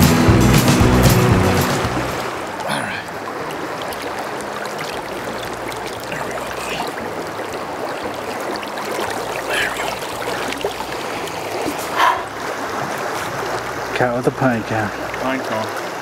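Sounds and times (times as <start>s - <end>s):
stream water trickling over rocks: 1.7s - 16.0s
light water splashing: 1.8s - 16.0s.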